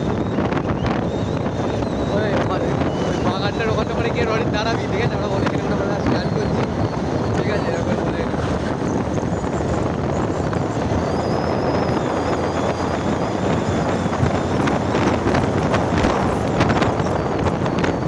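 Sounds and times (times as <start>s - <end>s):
road noise: 0.0s - 18.0s
wind rushing over microphone: 0.0s - 18.0s
motorcycle engine: 1.0s - 18.0s.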